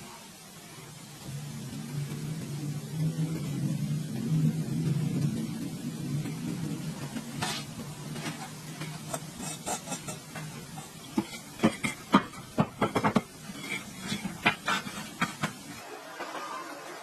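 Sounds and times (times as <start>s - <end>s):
low steady hum: 0.0s - 15.8s.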